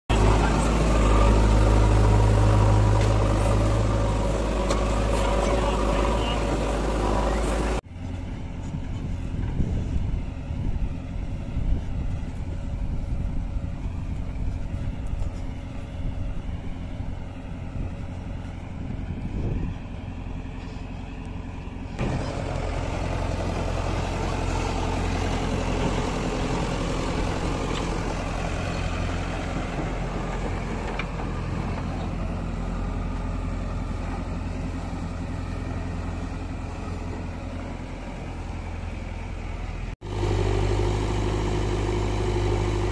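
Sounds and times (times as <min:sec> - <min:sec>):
diesel engine running: 0:00.1 - 0:42.9.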